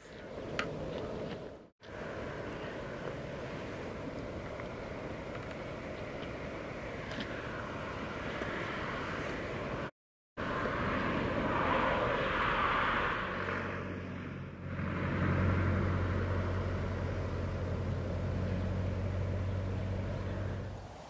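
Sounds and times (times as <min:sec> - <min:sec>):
engine droning: 0:00.4 - 0:20.9.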